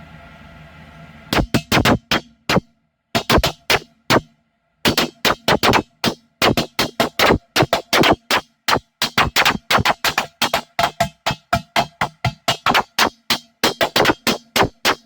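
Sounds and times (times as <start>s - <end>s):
drum machine beat: 1.4s - 4.3s, 4.9s - 15.0s.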